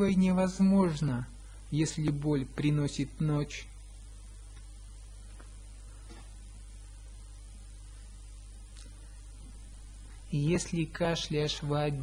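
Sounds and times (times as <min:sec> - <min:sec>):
faint low hum with hiss: 0:00.0 - 0:12.0.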